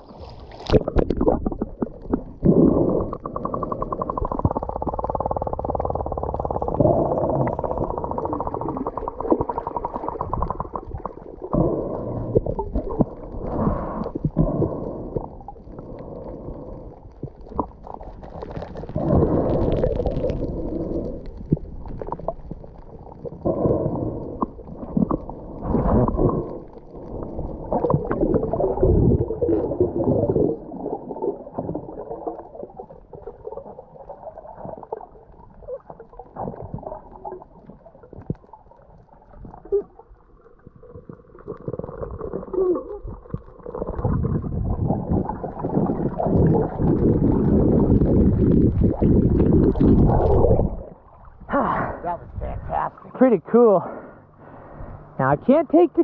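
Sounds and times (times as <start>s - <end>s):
underwater water rushing and gurgling: 0.0s - 55.2s.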